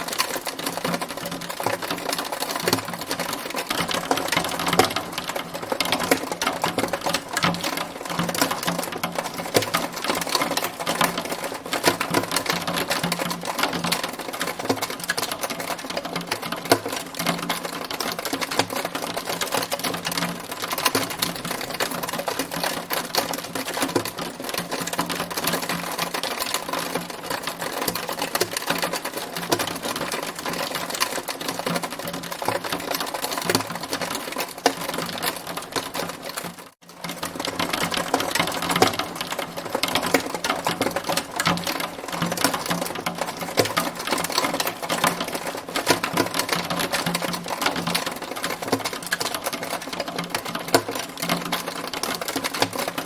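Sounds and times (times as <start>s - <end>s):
hailstones striking hard surface: 0.0s - 53.0s.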